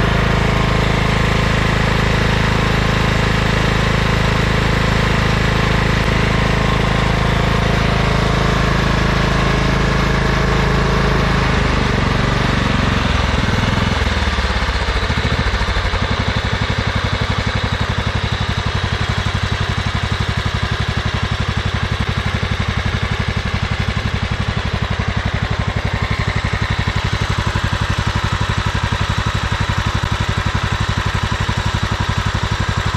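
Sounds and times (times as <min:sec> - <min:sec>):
lawn tractor engine running: 0:00.0 - 0:32.9.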